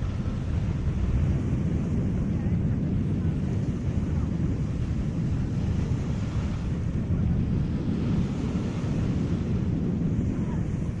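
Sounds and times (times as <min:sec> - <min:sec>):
sea waves washing: 0:00.0 - 0:11.0
wind buffeting microphone: 0:00.0 - 0:11.0.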